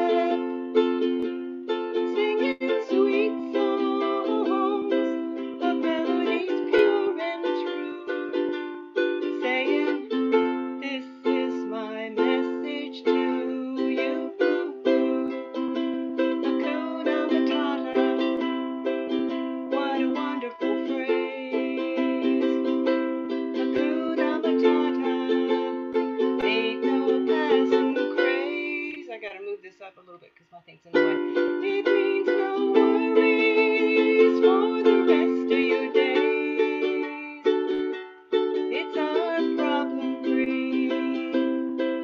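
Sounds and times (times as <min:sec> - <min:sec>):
ukulele strumming chords: 0:00.0 - 0:29.8, 0:30.8 - 0:42.0.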